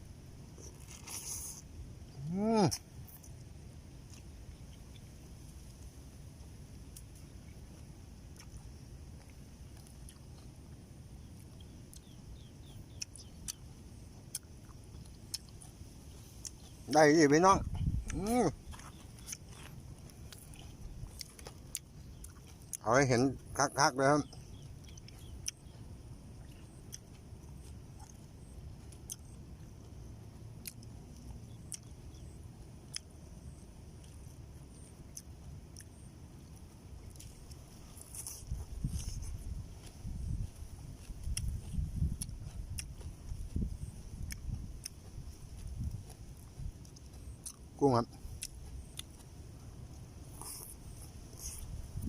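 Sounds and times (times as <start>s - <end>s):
steady low rumble: 0.0s - 0.8s, 1.4s - 52.0s
person chewing: 0.6s - 5.9s, 6.8s - 52.0s.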